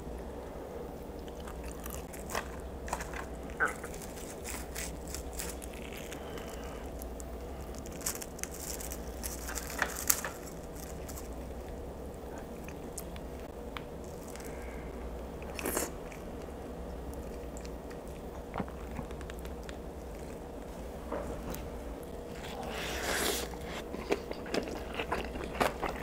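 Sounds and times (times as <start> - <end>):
chewing: 1.2 - 13.3, 14.0 - 20.8, 22.3 - 26.0.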